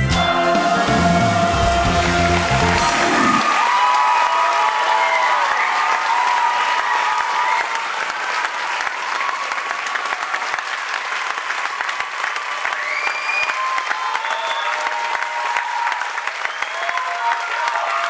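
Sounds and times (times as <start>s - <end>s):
audience clapping: 0.7s - 18.0s.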